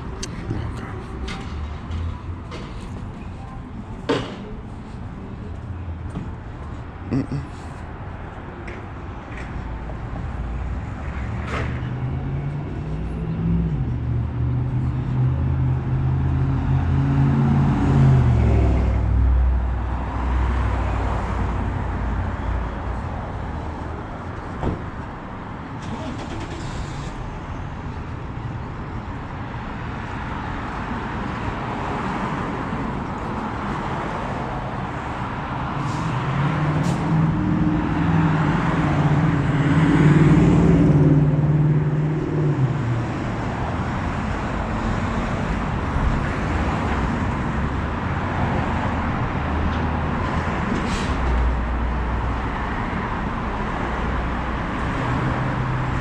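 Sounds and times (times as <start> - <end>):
cars passing on street: 0.0 - 56.0
heavy vehicle engine hum: 0.0 - 56.0.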